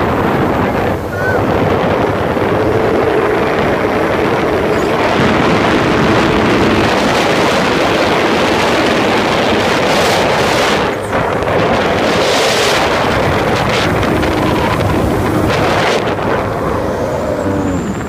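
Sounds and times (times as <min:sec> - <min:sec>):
boat engine running: 0:00.0 - 0:18.0
water rushing past: 0:00.0 - 0:18.0
wind buffeting microphone: 0:00.0 - 0:18.0.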